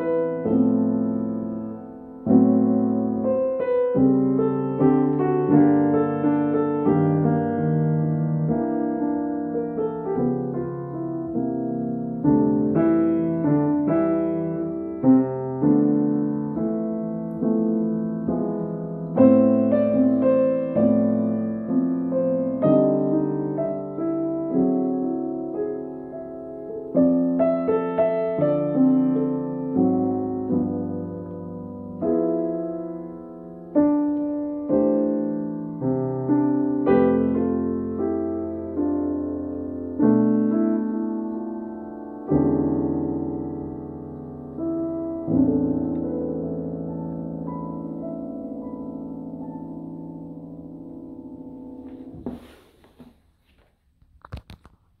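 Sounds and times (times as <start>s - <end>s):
slow solo piano: 0.0s - 55.0s.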